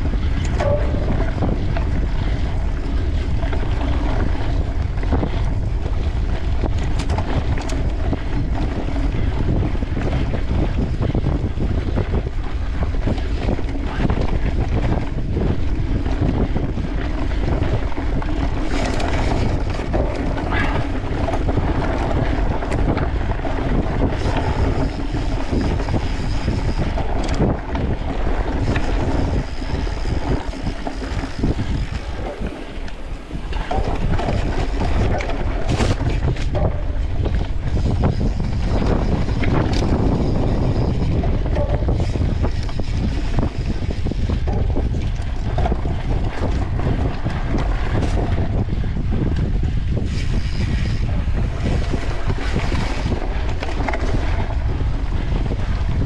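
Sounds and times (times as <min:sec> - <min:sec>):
bike rattling and knocking: 0:00.0 - 0:56.0
wind rushing over microphone: 0:00.0 - 0:56.0.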